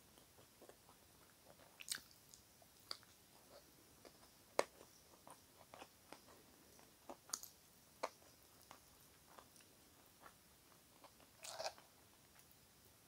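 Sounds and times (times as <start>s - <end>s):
close-up chewing mouth clicks: 0.2s - 12.4s.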